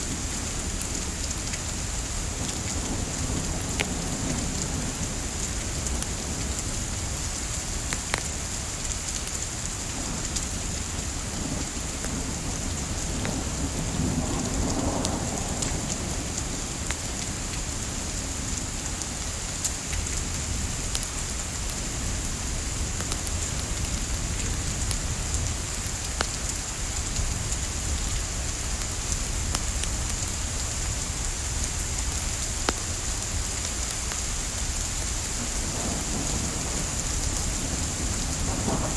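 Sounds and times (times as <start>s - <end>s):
soft rain: 0.0s - 38.9s.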